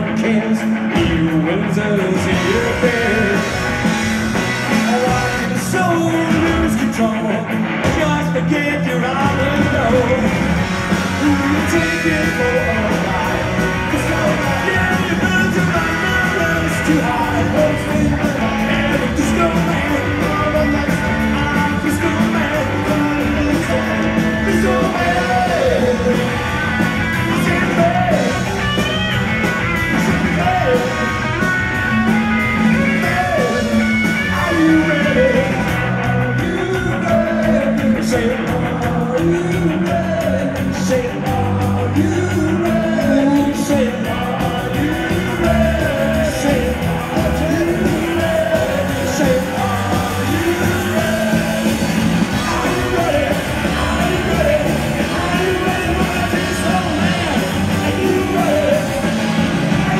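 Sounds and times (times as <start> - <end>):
live punk rock band: 0.0 - 59.9
person singing lead vocal: 0.0 - 59.9.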